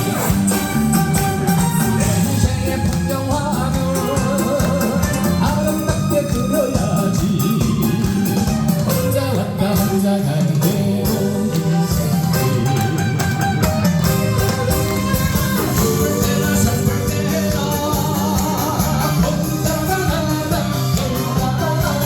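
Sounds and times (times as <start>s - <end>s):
backing band track: 0.0s - 22.0s
person singing live: 0.0s - 22.0s.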